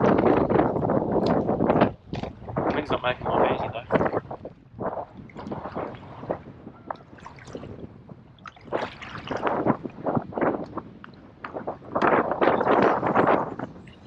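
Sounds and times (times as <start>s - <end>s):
water splashing against kayak hull: 1.1s - 14.0s.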